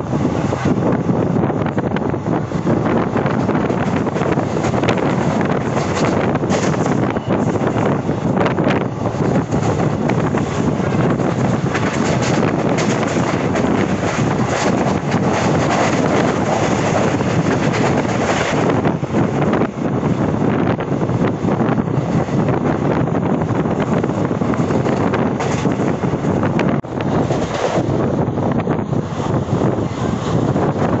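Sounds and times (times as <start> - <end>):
train rumbling over track: 0.0 - 31.0
wind buffeting microphone: 0.0 - 31.0.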